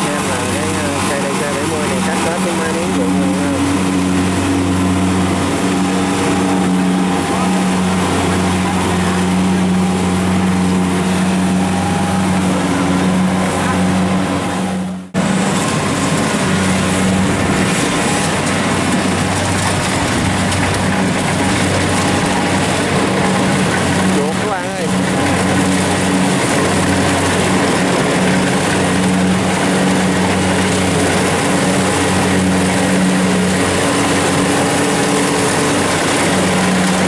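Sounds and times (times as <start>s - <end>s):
diesel engine running under load: 0.0s - 37.0s
threshing machinery noise: 0.0s - 37.0s.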